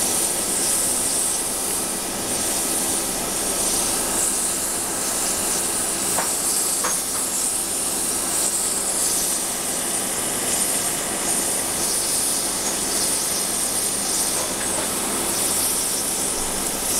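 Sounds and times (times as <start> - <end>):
liquid nitrogen hissing: 0.0 - 16.9.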